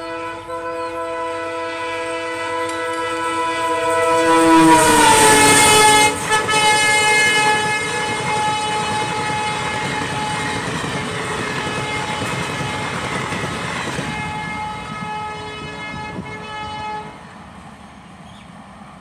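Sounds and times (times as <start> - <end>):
train horn: 0.0 - 17.4
diesel locomotive passing: 0.0 - 19.0.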